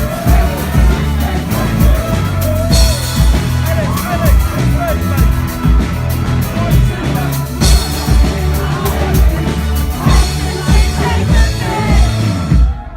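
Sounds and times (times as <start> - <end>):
heavy kick drum beat: 0.0 - 12.9
rock band playing live: 0.0 - 12.9.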